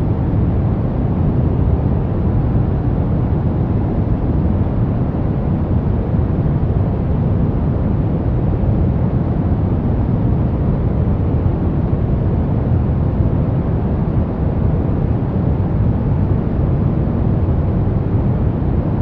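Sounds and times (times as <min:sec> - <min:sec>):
deep rumbling brown noise: 0:00.0 - 0:19.0.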